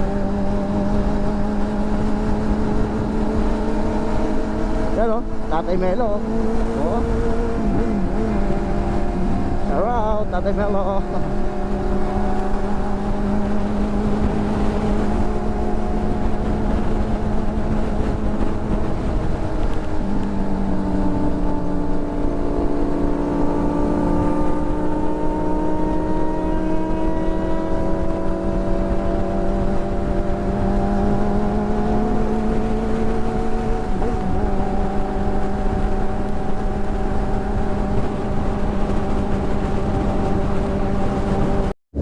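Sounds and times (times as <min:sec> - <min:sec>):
motorcycle engine cruising: 0:00.0 - 0:42.0
wind noise rumble: 0:00.0 - 0:42.0.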